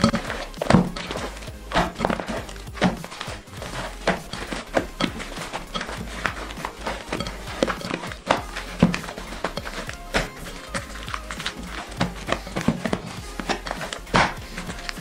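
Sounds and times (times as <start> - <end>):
slime squishing and crackling: 0.0 - 15.0.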